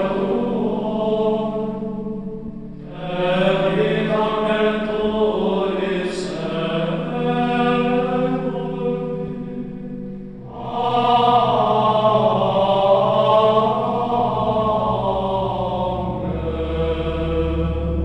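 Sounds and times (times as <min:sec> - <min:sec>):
voices chanting long notes: 0:00.0 - 0:18.0.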